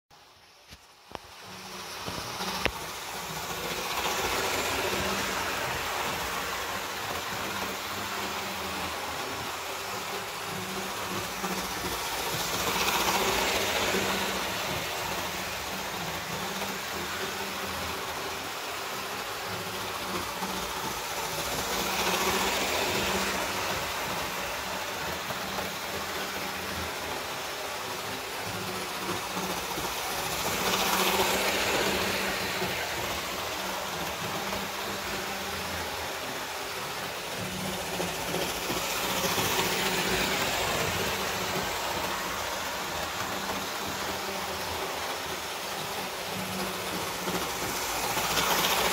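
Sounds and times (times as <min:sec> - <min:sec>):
model train motor hum: 0:00.2 - 0:48.9
wheels rumbling on rails: 0:00.5 - 0:48.9.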